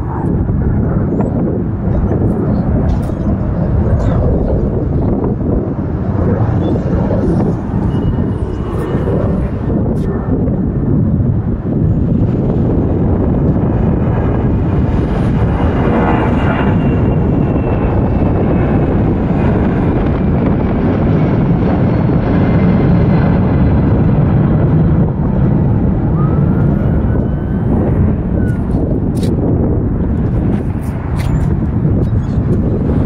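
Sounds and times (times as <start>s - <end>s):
jet engines rumbling: 0.0s - 33.0s.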